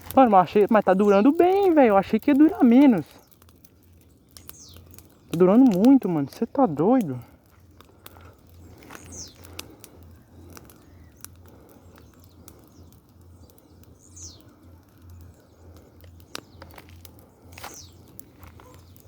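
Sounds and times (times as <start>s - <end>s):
bonfire crackling and popping: 0.0s - 19.0s
bird chirp: 0.5s - 6.2s, 8.5s - 19.0s.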